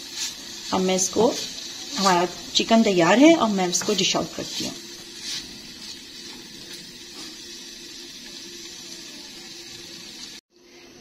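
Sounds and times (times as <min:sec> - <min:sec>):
chicken sizzling in oil: 0:00.0 - 0:10.4.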